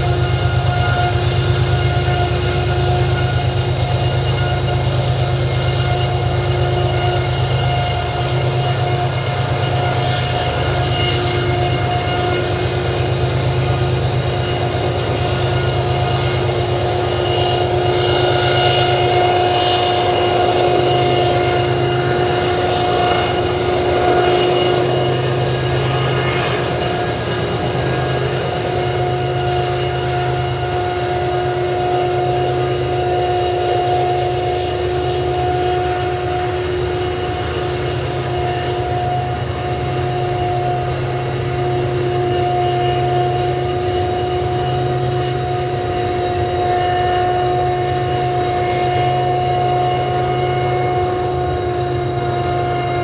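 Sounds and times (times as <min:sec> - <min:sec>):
diesel locomotive whine: 0:00.0 - 0:53.0
hopper cars rumbling on rails: 0:00.0 - 0:53.0.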